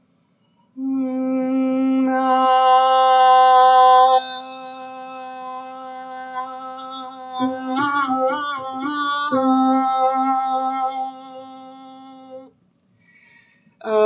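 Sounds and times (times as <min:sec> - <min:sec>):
woman singing sustained note: 0:00.8 - 0:12.5.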